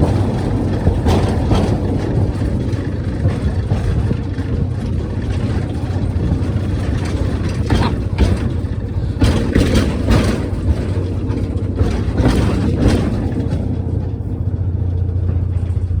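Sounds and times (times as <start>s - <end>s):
diesel train engine hum: 0.0s - 16.0s
train clacks and rattles: 0.0s - 16.0s.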